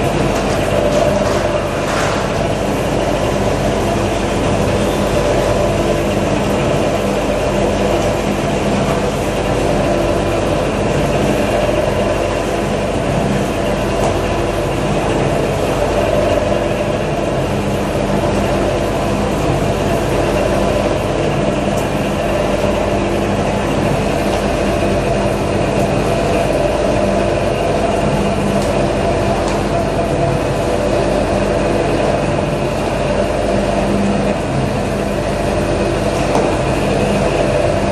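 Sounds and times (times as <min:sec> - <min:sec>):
mixer motor humming: 0:00.0 - 0:37.9.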